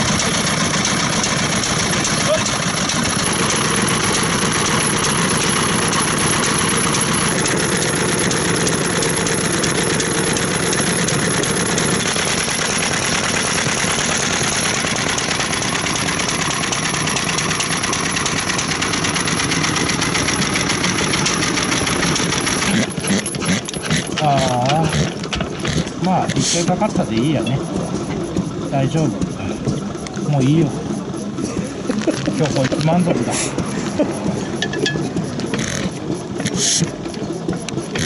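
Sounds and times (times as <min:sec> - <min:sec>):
stationary engine running: 0:00.0 - 0:38.0.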